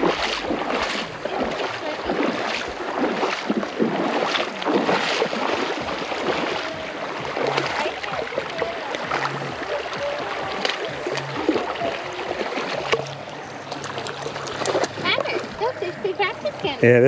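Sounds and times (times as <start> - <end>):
small irregular splashes: 0.0 - 16.8
river water rushing: 0.0 - 17.0.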